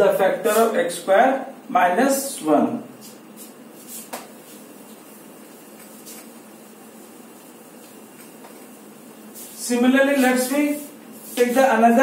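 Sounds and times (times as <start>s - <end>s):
duster wiping whiteboard: 0.1s - 1.0s, 2.9s - 12.0s.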